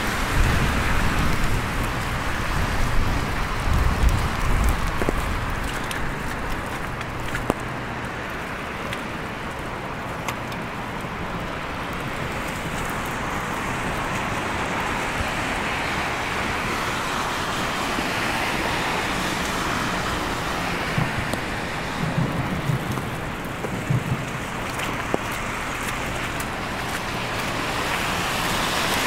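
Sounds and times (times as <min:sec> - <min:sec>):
car tyres hissing through slush: 0:00.0 - 0:29.0.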